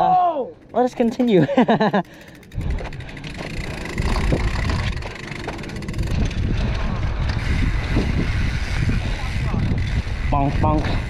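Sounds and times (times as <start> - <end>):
bike clicks and rattles: 0.0 - 11.0
bike tyres on dirt trail: 0.0 - 11.0
wind buffeting microphone: 0.5 - 11.0.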